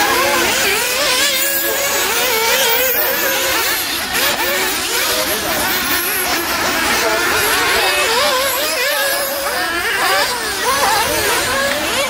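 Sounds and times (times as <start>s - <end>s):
rc car engines revving: 0.0s - 12.0s.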